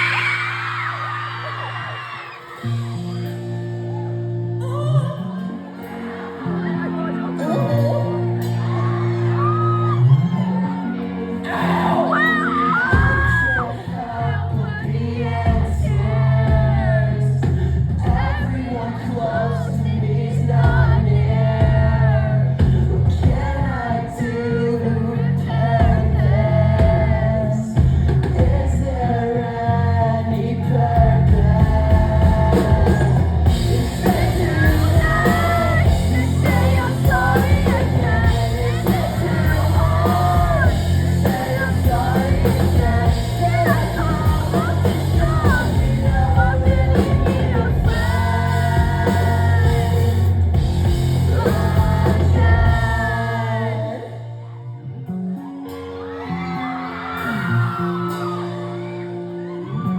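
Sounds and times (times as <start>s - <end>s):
drums: 0.0s - 54.5s, 56.9s - 59.9s
electric guitar: 0.0s - 59.9s
person singing lead vocal: 4.4s - 54.7s, 55.7s - 59.9s.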